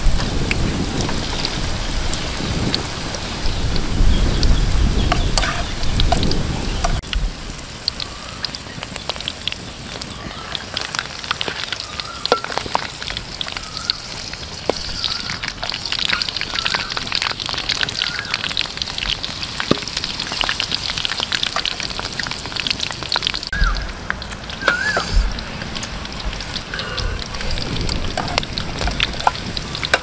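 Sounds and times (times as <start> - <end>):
deep-frying sizzle with pops: 0.0 - 30.0.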